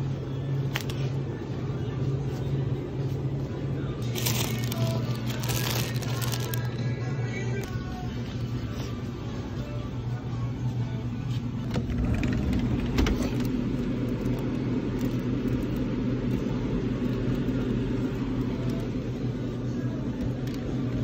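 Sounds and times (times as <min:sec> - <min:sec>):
drinks cooler humming: 0:00.0 - 0:21.0.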